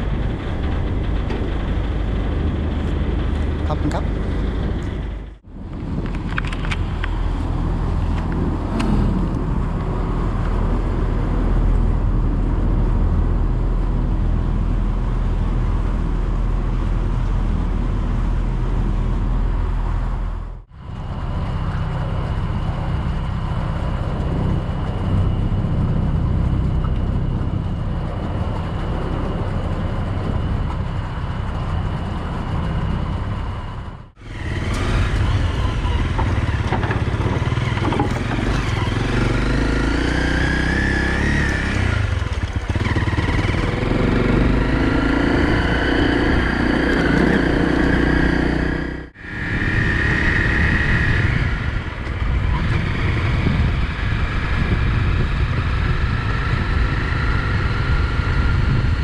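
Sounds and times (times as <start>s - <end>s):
ferry engine droning: 0.0s - 59.0s.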